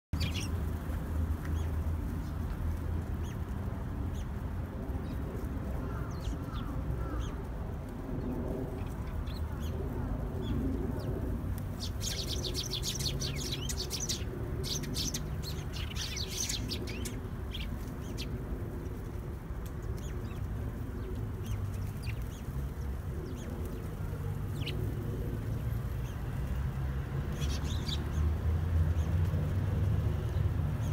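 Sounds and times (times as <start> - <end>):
sparrows chirping: 0.2 - 7.5, 8.1 - 30.9
steady low rumble: 0.2 - 26.0.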